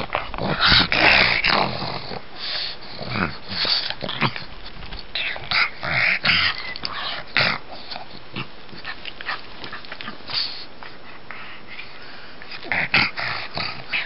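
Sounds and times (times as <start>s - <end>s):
dog snorting and wheezing: 0.0s - 14.0s.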